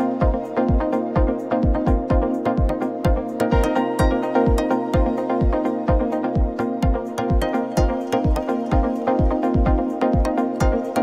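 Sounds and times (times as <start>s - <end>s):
sustained synth chords: 0.0s - 11.0s
deep kick drum: 0.2s - 11.0s.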